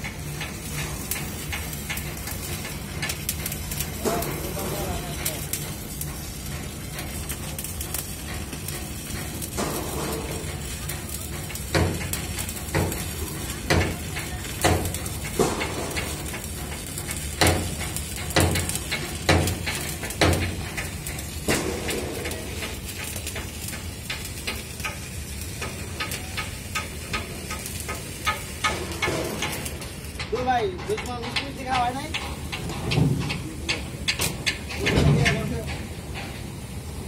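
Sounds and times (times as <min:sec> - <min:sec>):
arc welding crackling sizzle: 0:00.0 - 0:37.0.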